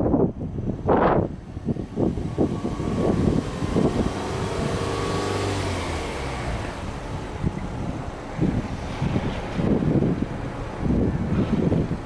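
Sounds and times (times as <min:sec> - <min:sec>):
car engine revving: 0:01.2 - 0:11.8.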